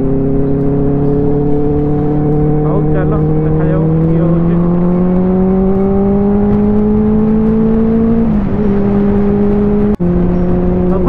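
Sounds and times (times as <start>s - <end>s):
motorcycle engine pulling: 0.0s - 11.0s
wind noise: 0.0s - 11.0s.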